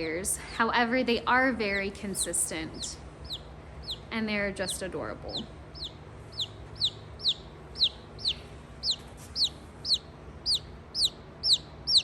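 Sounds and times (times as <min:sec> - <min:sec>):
baby chick peeping: 0:01.8 - 0:12.0.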